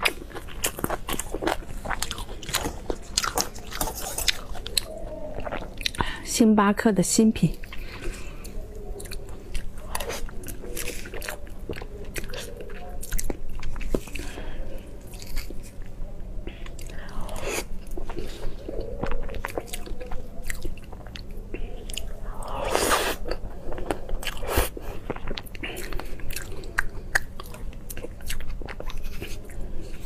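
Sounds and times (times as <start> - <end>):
wet chewing and lip smacks: 0.0 - 6.2, 7.5 - 14.3, 16.6 - 30.0.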